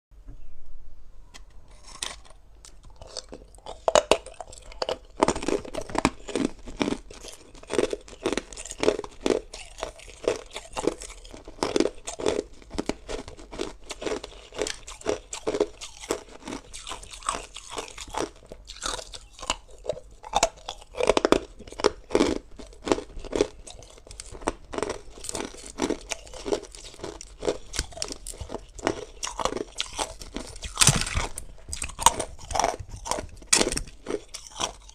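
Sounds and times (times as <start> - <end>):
person crunching ice: 1.7 - 34.9.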